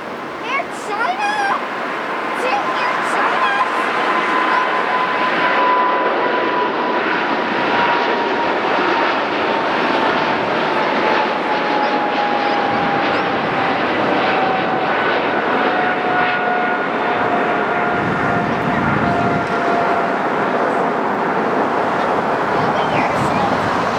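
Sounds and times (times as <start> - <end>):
jet engines passing: 0.0 - 23.9.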